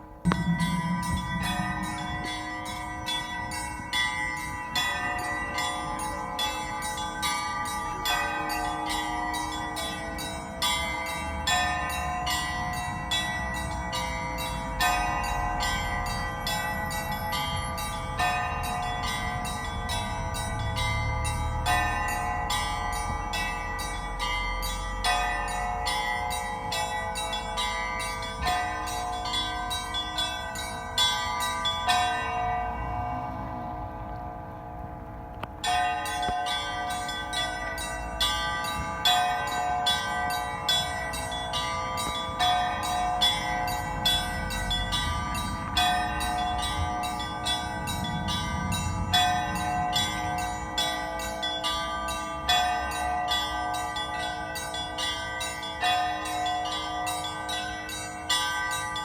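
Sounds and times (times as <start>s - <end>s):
heavy bell striking: 0.0s - 34.8s, 35.6s - 59.0s
small church bells ringing rapidly: 0.0s - 59.0s.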